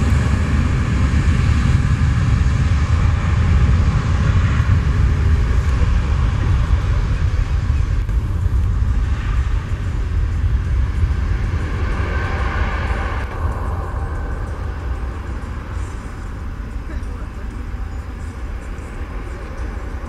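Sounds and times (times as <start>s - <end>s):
jet engines at takeoff power: 0.0s - 20.0s.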